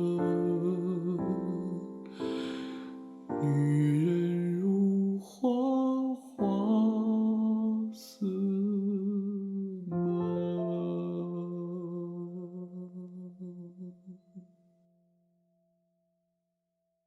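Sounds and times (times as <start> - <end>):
soft backing track: 0.0 - 14.4
person singing a slow ballad: 0.0 - 14.5.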